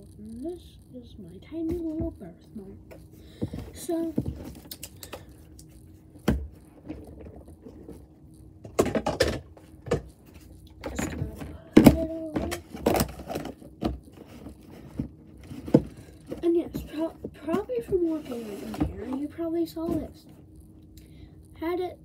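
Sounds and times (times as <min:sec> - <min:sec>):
faint steady hum: 0:00.0 - 0:22.0
knocks and rustling handling: 0:01.5 - 0:20.5.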